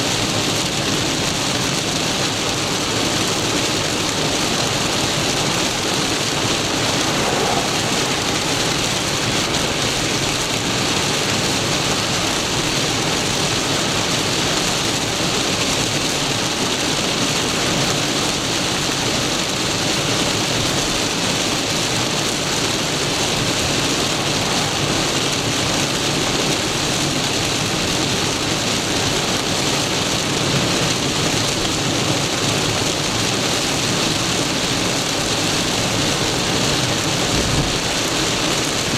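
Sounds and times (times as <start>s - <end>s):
heavy rain on car roof: 0.0s - 38.9s
tyres hissing on wet road: 0.0s - 38.9s.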